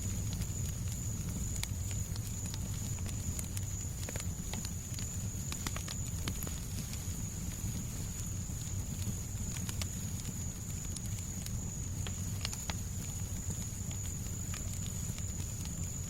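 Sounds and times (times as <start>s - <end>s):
fireplace crackling: 0.0s - 16.0s
low steady rumble: 0.0s - 16.0s.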